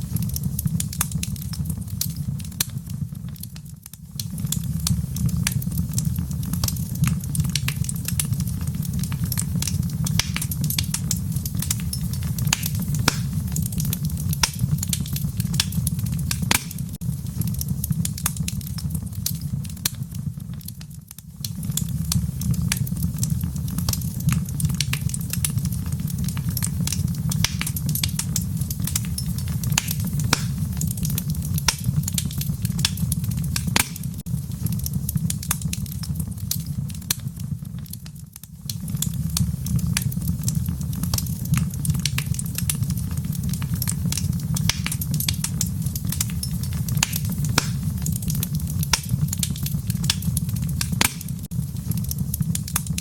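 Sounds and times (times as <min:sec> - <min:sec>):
low rumble of flame: 0:00.0 - 0:53.0
wood fire crackling: 0:00.0 - 0:53.0.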